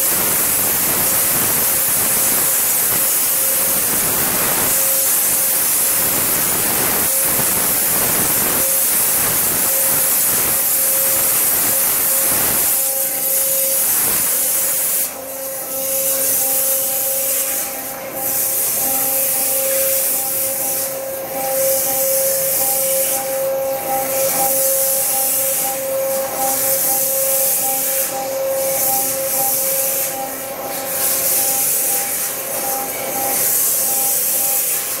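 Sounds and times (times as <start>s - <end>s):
machine whine: 0.0s - 35.0s
waterjet hissing: 0.0s - 35.0s.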